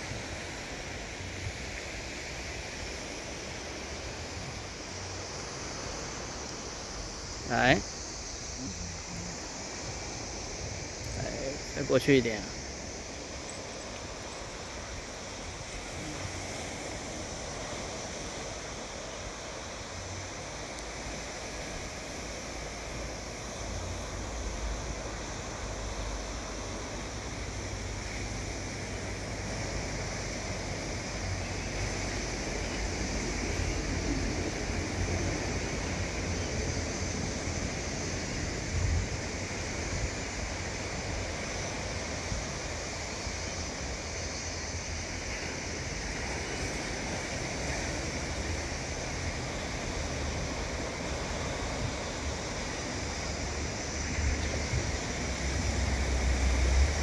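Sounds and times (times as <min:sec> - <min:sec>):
sea surf: 0:00.0 - 0:57.0.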